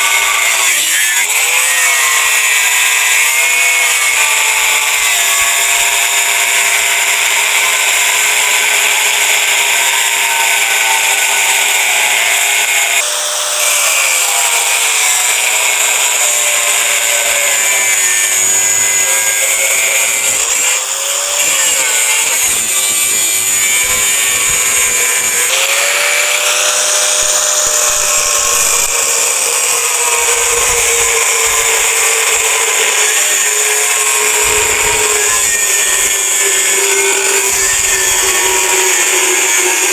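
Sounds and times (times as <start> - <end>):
angle grinder cutting metal: 0.0 - 39.9.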